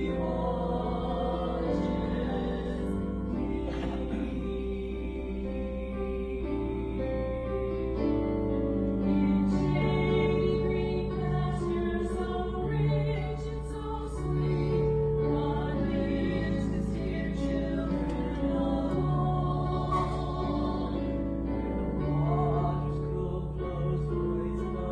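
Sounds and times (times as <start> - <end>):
slow church music with singing: 0.0 - 24.9.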